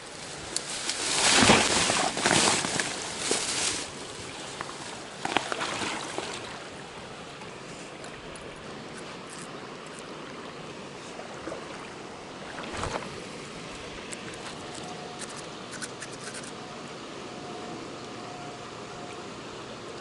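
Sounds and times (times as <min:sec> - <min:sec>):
river flowing: 0:00.0 - 0:20.0.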